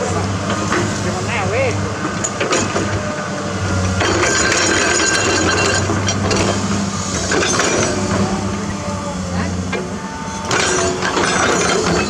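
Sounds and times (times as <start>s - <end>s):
diesel excavator engine: 0.0s - 12.0s.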